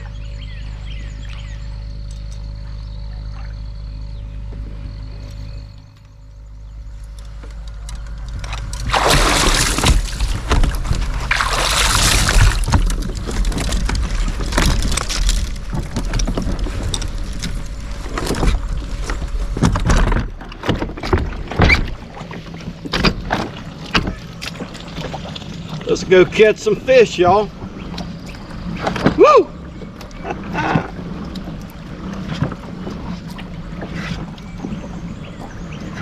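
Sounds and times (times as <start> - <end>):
water splashing around kayak: 6.8 - 36.0.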